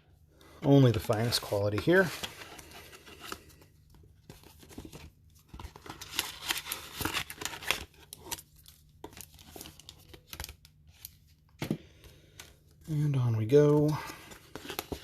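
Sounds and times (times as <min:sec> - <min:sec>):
paper envelopes rustling: 0:00.7 - 0:12.8, 0:13.6 - 0:15.0.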